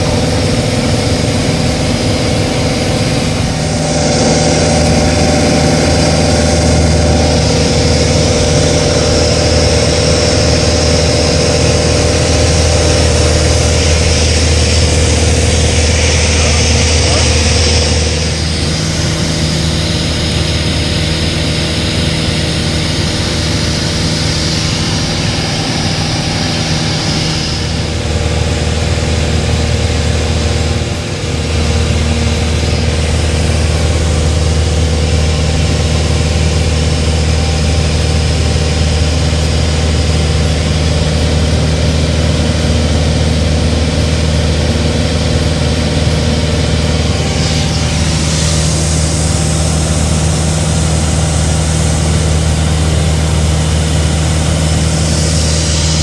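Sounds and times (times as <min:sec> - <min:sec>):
propeller plane engine in cabin: 0:00.0 - 0:56.0.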